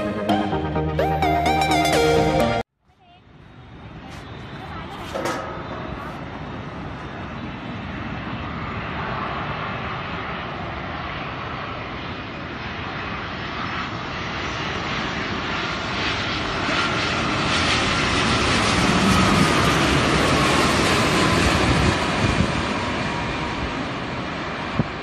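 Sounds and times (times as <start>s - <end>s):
jet engine whine: 0.0s - 25.0s
jet airliner engine noise: 3.0s - 25.0s.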